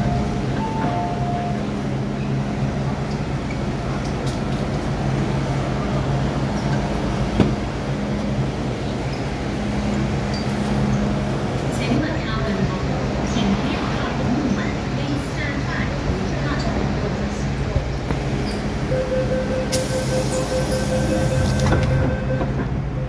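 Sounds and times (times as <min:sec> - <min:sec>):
train low hum: 0:00.0 - 0:23.0.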